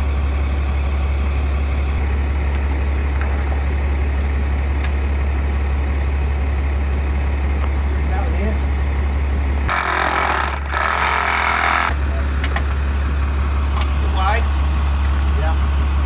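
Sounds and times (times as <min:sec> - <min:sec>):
heavy engine idling: 0:00.0 - 0:16.0.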